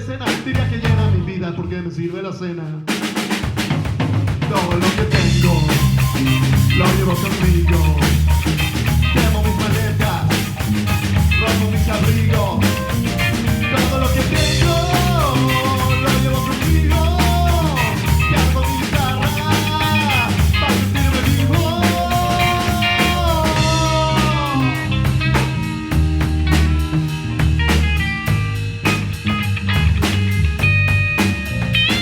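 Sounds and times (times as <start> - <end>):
drum-kit beat: 0.0 - 1.3, 2.8 - 32.0
bass guitar: 0.0 - 2.0, 3.6 - 32.0
lead guitar bending notes: 5.2 - 32.0.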